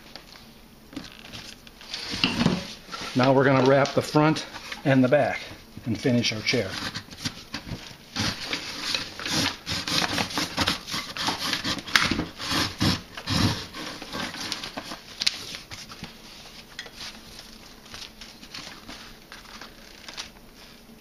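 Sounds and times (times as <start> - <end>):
paper cord rubbing and rustling: 1.0 - 21.0.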